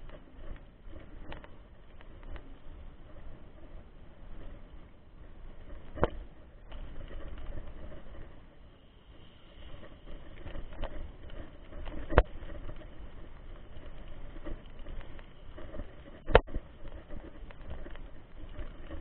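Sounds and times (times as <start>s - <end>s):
bike tyre noise and rattling: 0.0s - 19.0s.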